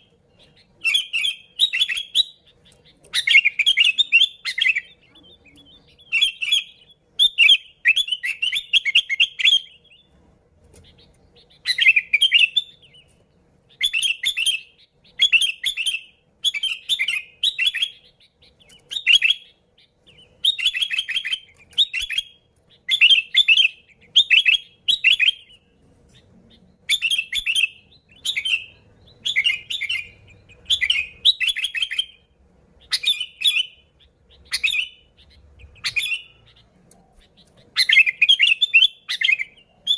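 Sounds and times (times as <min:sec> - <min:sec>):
bulbul singing warbling phrases: 0:00.0 - 0:10.2, 0:10.8 - 0:39.9.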